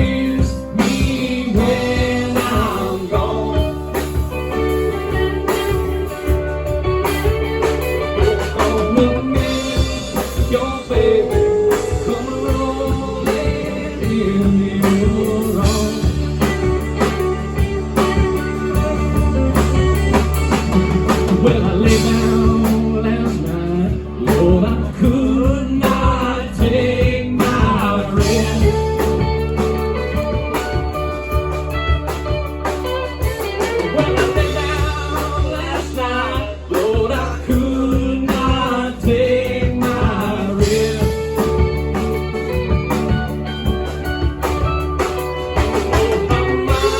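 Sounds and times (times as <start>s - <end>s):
bass: 0.0s - 46.9s
drums: 0.0s - 46.9s
wavering lead guitar line: 0.0s - 46.9s.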